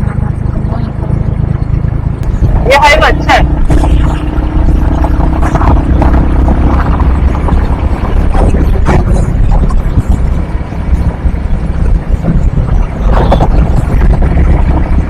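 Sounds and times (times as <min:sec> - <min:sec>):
motorcycle engine and wind rumble: 0:00.0 - 0:15.0
wind gusts on microphone: 0:00.0 - 0:15.0.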